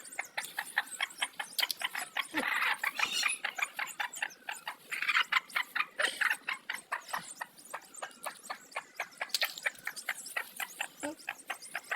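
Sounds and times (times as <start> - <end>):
chicks cheeping: 0.0 - 11.9.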